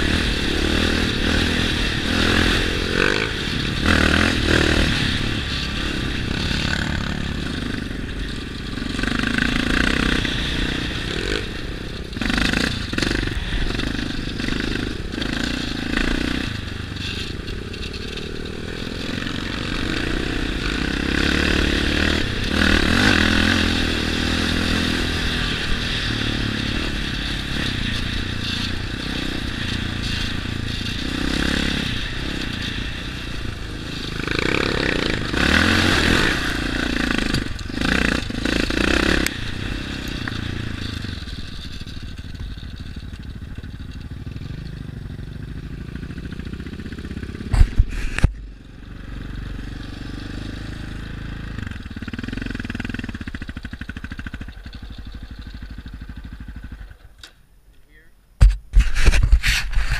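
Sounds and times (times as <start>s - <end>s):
quad engines revving: 0.0s - 42.0s, 43.8s - 57.3s.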